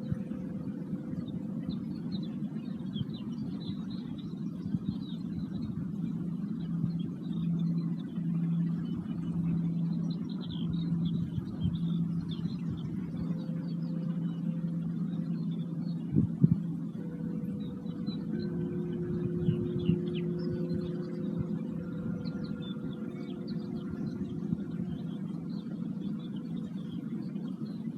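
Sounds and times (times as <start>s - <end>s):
birds chirping faintly: 0.0s - 27.9s
singing bowl tone: 0.0s - 27.9s
wind rumbling on microphone: 0.0s - 27.9s.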